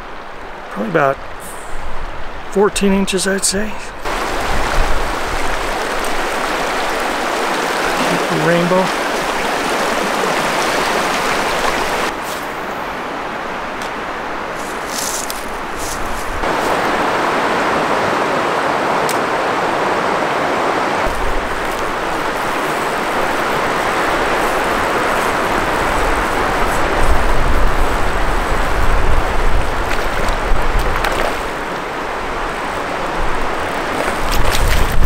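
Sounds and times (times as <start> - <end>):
creek water rushing: 0.0 - 35.0
wind rumbling on microphone: 3.9 - 35.0.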